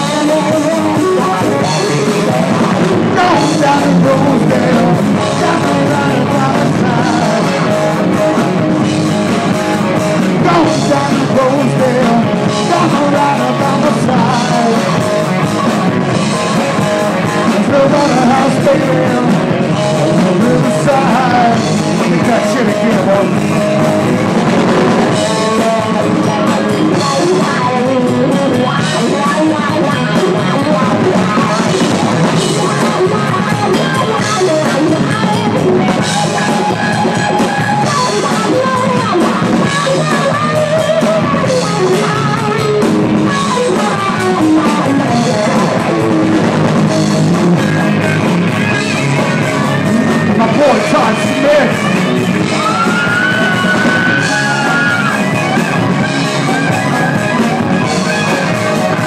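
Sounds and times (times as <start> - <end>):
drum kit: 0.0 - 59.0
electric guitar: 0.0 - 59.0.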